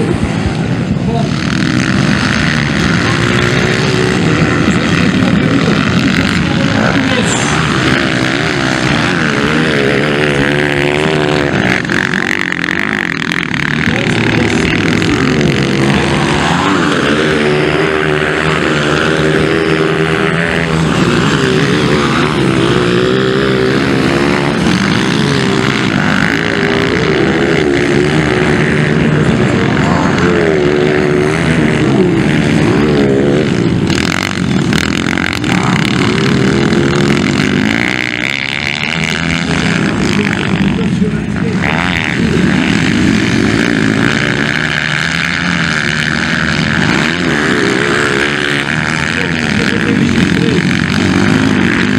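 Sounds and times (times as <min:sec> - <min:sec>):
motocross bikes revving past: 0:00.0 - 0:51.9.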